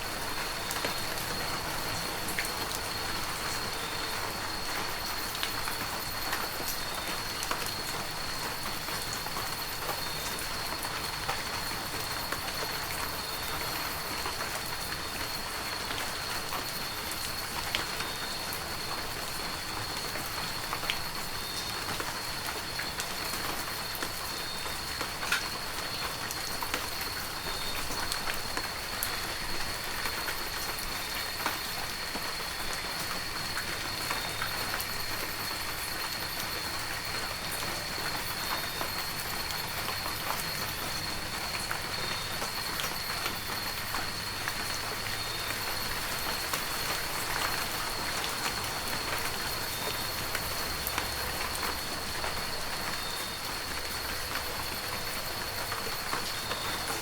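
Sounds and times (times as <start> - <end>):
heavy rain hiss: 0.0 - 57.0
raindrops pattering on surfaces: 0.0 - 57.0.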